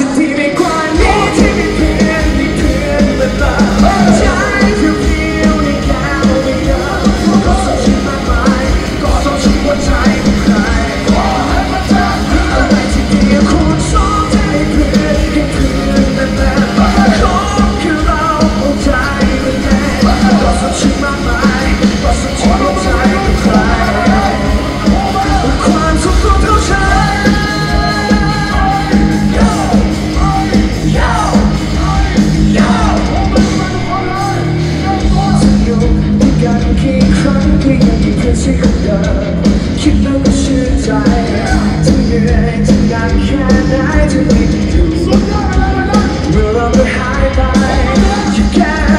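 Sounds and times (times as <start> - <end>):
live pop-rock band playing: 0.0 - 48.9
people singing into microphones: 0.0 - 48.9.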